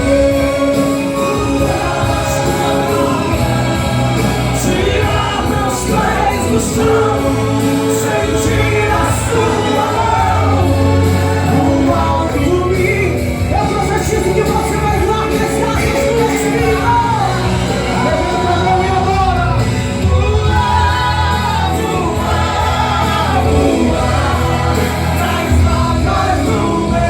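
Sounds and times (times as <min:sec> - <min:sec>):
bass line: 0:00.0 - 0:27.0
drum and cymbal hits: 0:00.0 - 0:27.0.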